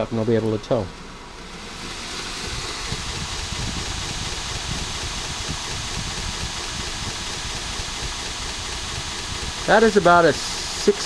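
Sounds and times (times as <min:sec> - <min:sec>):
belt grinder running: 0:00.9 - 0:11.0.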